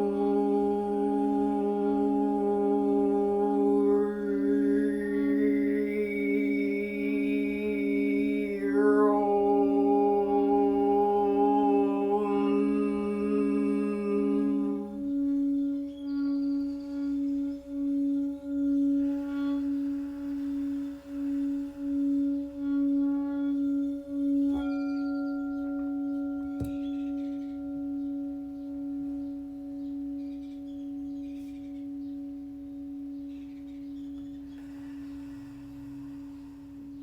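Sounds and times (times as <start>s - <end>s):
singing bowl ringing: 0.0s - 37.0s
singing bowl struck: 0.0s - 37.0s.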